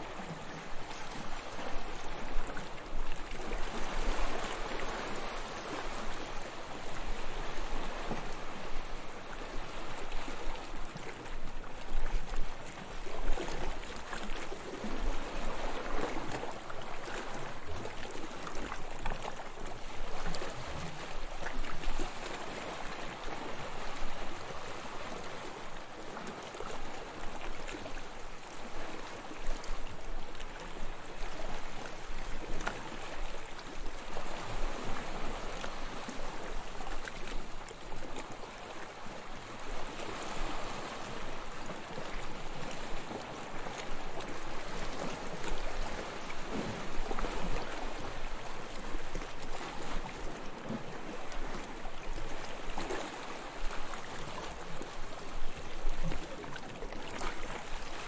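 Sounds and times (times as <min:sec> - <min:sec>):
sea waves washing in: 0:00.0 - 0:58.0.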